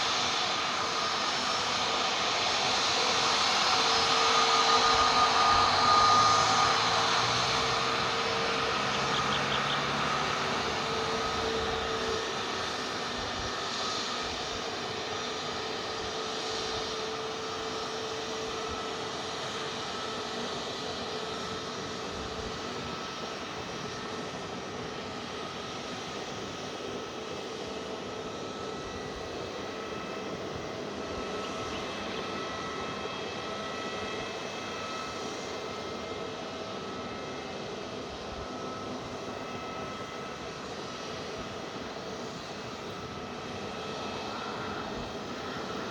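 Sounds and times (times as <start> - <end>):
airliner engines rushing hiss: 0.0 - 45.9
engine whine tones: 0.0 - 45.9.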